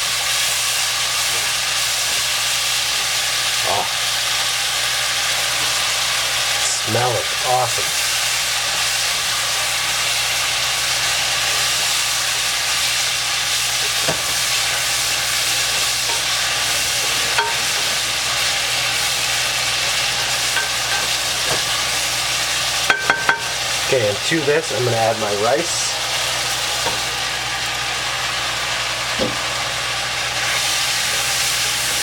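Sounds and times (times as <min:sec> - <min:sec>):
chicken sizzling in fat: 0:00.0 - 0:32.0.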